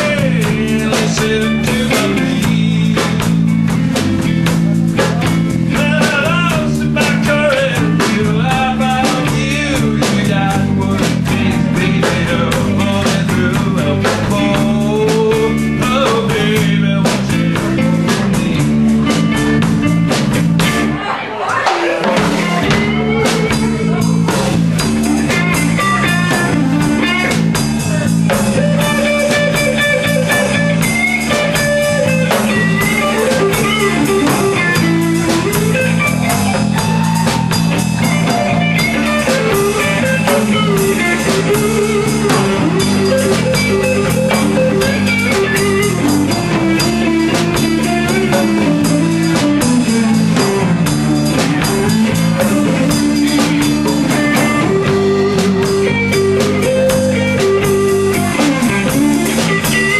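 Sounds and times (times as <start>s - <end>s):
bass guitar: 0.0s - 59.9s
drum kit: 0.0s - 59.9s
electric guitar lead: 0.0s - 59.9s.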